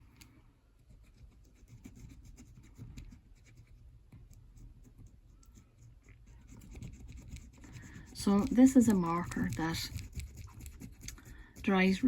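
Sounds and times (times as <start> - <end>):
marker pen scratching: 0.8 - 12.0.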